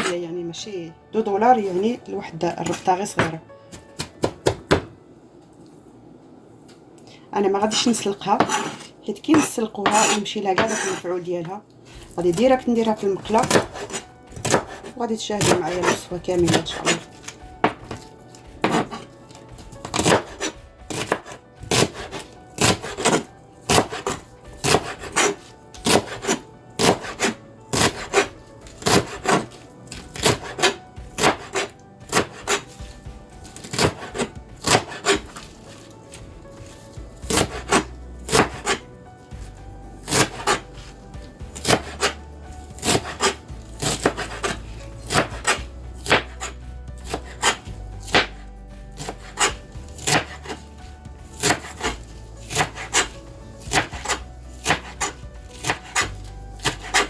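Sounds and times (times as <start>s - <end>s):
knife chopping on cutting board: 2.5s - 5.0s, 8.2s - 11.0s, 11.9s - 38.8s, 39.4s - 57.0s.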